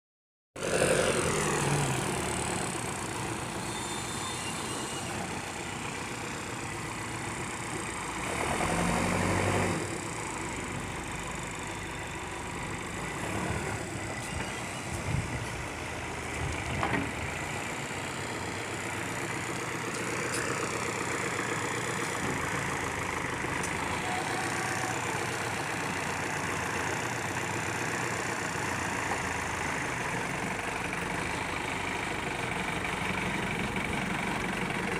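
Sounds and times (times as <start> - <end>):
bulldozer diesel engine running: 0.6 - 34.9.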